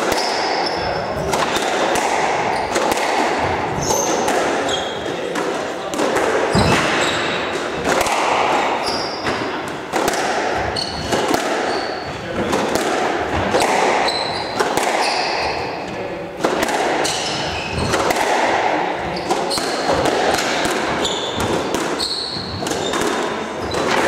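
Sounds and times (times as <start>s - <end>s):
sneakers squeaking on wooden floor: 0.0s - 5.3s, 6.5s - 9.8s, 10.5s - 12.5s, 13.2s - 16.0s, 17.0s - 18.2s, 19.0s - 24.0s
squash ball cracking off racket: 0.0s - 24.0s.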